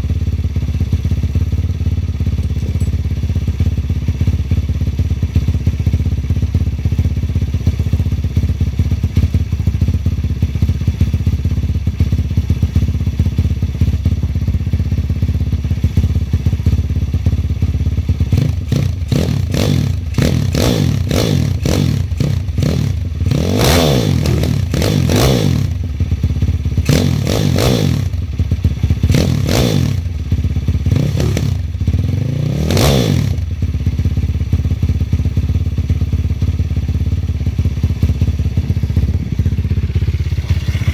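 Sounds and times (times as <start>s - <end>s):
small engine idling: 0.0s - 40.9s.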